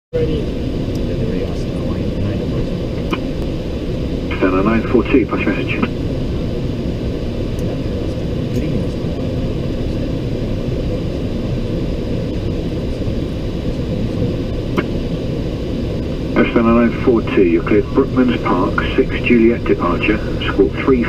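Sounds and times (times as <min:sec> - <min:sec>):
low cockpit background noise: 0:00.1 - 0:21.0.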